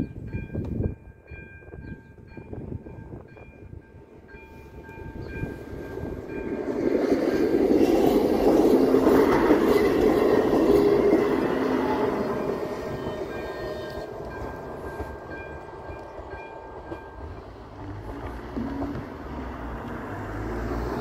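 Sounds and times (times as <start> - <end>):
level-crossing warning bell: 0.0 - 18.7
passenger train passing: 0.0 - 21.0.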